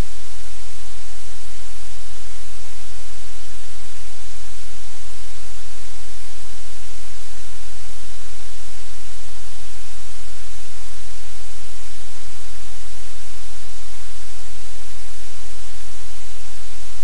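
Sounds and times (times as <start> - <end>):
low electrical hum: 0.0 - 17.0
static hiss: 0.0 - 17.0.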